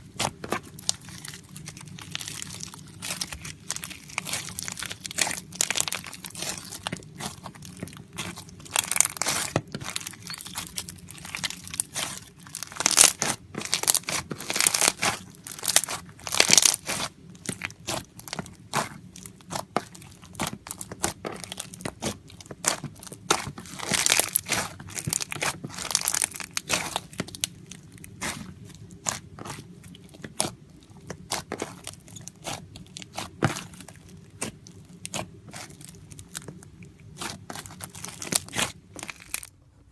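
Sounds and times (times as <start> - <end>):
slime crackling and popping: 0.0 - 39.6.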